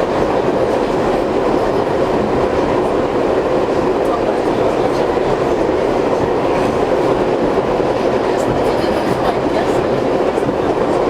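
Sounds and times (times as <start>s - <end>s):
subway wheels rumbling on rails: 0.0s - 11.0s.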